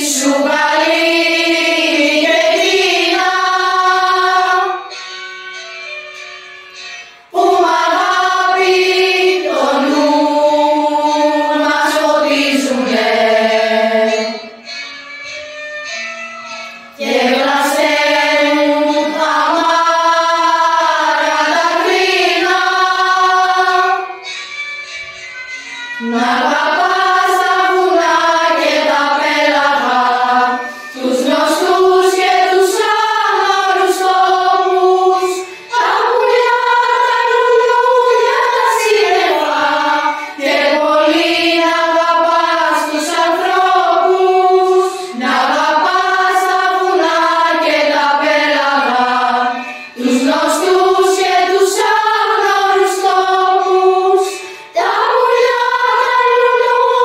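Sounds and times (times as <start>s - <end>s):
children's choir singing: 0.0s - 14.8s, 16.6s - 57.0s.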